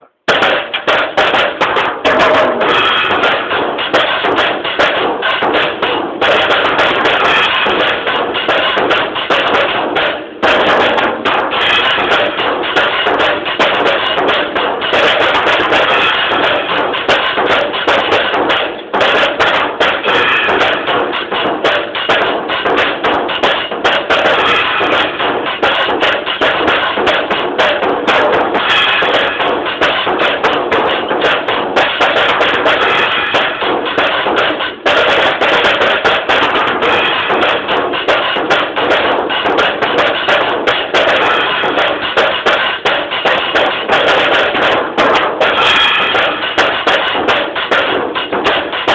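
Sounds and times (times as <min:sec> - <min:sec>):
drum kit playing fast: 0:00.0 - 0:48.9.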